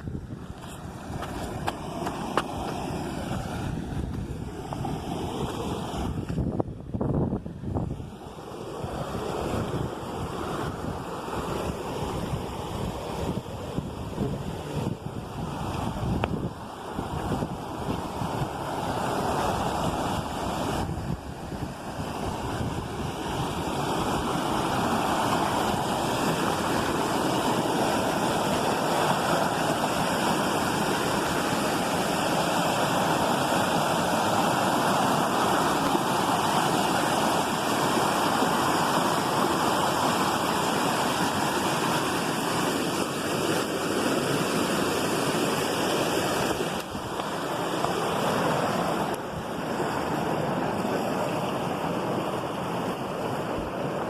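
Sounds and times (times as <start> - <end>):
waterfall rushing: 0.9 - 3.8, 8.1 - 54.0.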